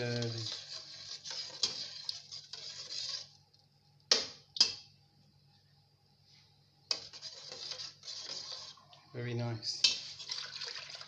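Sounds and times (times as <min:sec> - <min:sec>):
spoon stirring in a pot: 0:00.0 - 0:04.9, 0:06.8 - 0:11.0.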